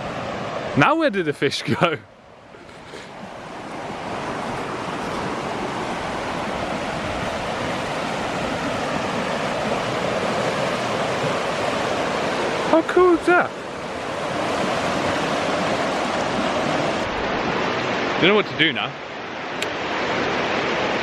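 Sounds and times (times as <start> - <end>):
rushing river water: 0.0 - 21.0.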